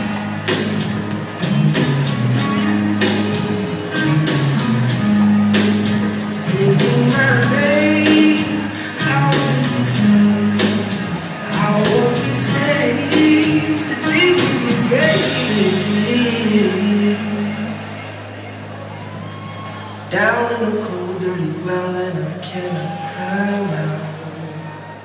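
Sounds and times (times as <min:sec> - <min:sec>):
rock song instrumental: 0:00.0 - 0:20.1.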